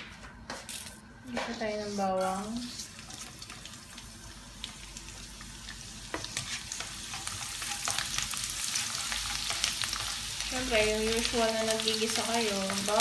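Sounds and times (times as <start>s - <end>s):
garlic sizzling in hot oil: 1.6s - 13.0s.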